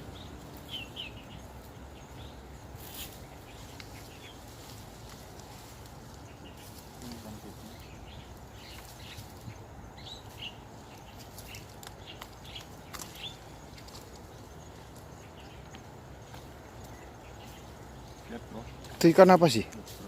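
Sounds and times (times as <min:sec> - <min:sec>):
low outdoor background noise: 0:00.0 - 0:20.0.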